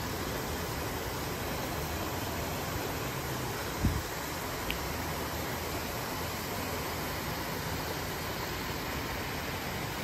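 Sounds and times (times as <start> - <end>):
water pouring over spillway: 0.0 - 10.0.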